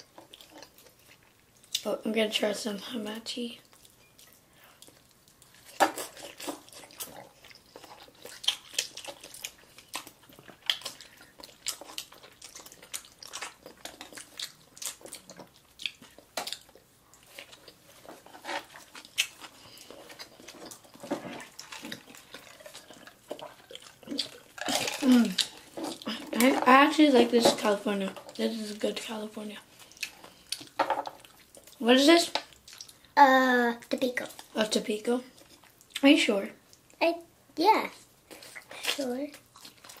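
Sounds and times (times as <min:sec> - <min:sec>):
person chewing food: 0:00.0 - 0:01.9, 0:03.6 - 0:26.8, 0:27.9 - 0:33.2, 0:35.3 - 0:37.0, 0:38.2 - 0:40.0.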